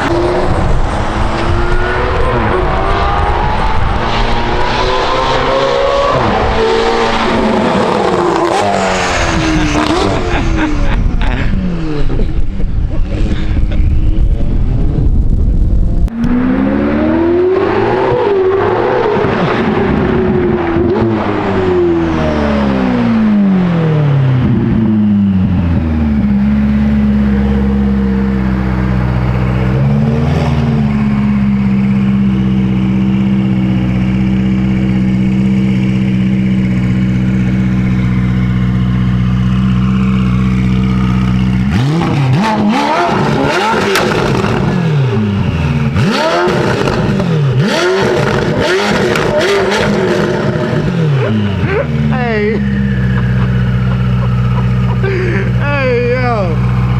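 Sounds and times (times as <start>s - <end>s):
sports car engine revving: 0.0s - 14.6s, 16.1s - 56.9s.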